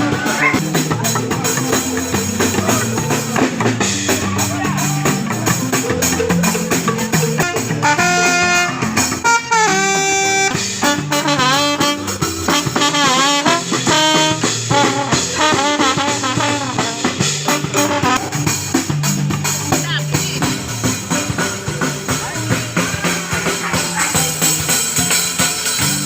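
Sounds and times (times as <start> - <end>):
jazzy music with brass-like lead: 0.0 - 26.0.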